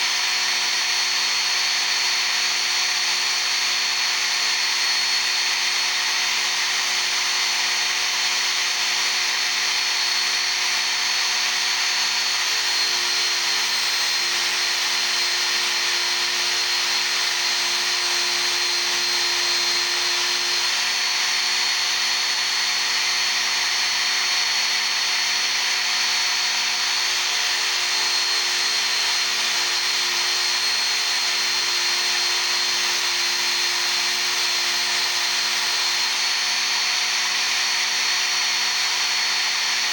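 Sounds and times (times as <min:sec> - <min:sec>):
belt sharpener whining: 0:00.0 - 0:39.9.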